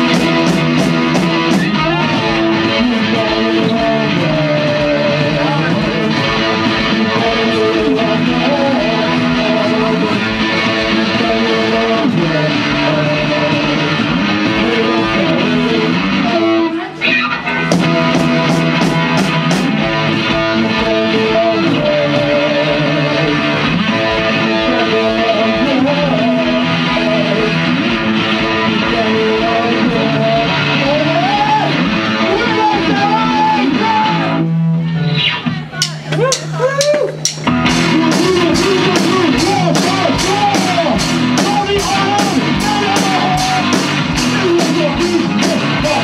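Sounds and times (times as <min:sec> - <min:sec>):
rock band playing live: 0:00.0 - 0:46.0
strummed electric guitar: 0:00.0 - 0:46.0.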